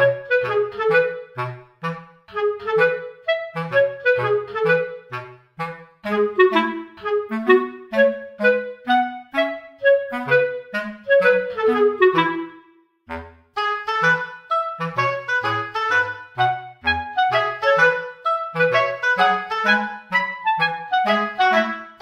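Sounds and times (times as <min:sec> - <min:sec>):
instrumental background music: 0:00.0 - 0:22.0.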